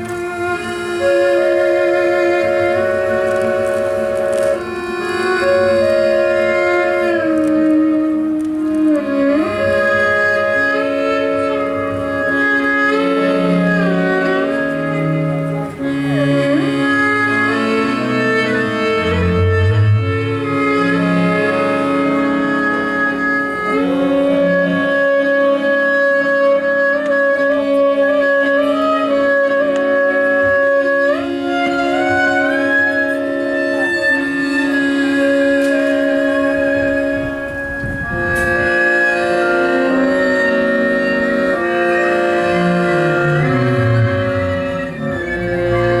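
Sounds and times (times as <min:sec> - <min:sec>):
small band playing slow music: 0:00.0 - 0:46.0.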